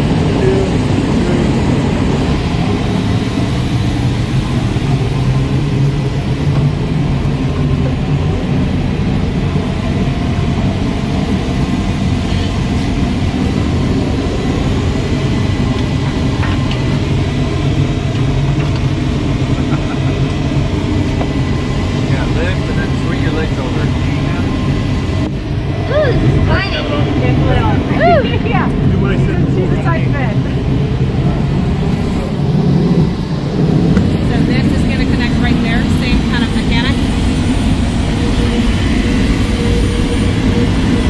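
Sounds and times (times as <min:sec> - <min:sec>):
engine equipment rumbling: 0:00.0 - 0:41.0.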